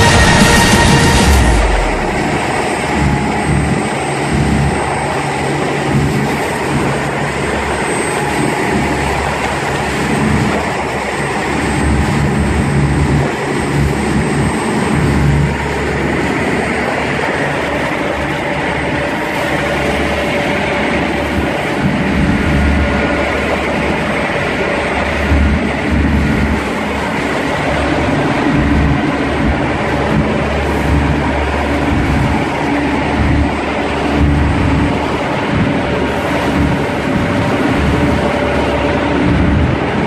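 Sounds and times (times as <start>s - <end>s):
boat engine rumble: 0.0s - 40.0s
waves splashing against hull: 0.0s - 40.0s
wind buffeting microphone: 0.0s - 40.0s.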